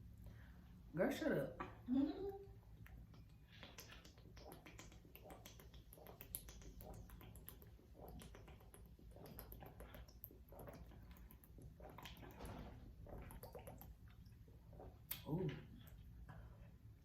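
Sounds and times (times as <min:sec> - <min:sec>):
soft gulps drinking: 0:01.5 - 0:17.0.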